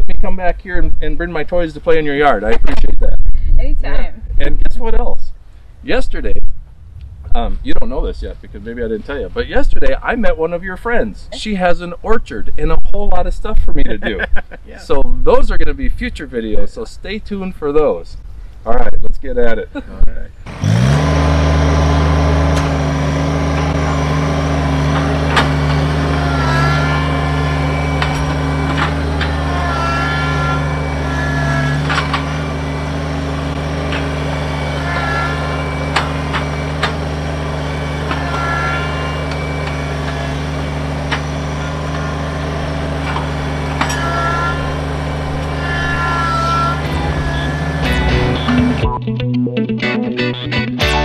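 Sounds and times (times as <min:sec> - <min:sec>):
tractor diesel engine running: 0:00.0 - 0:15.7, 0:20.4 - 0:49.0.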